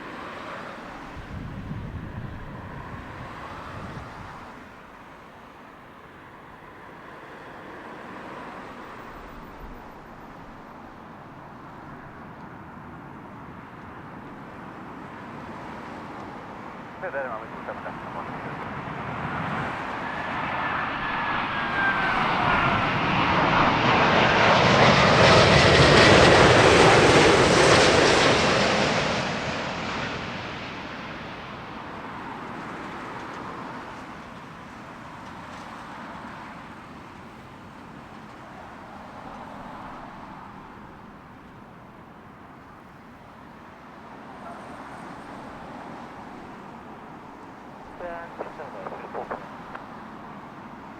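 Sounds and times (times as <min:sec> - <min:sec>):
jet airliner passing overhead: 0:00.0 - 0:50.9.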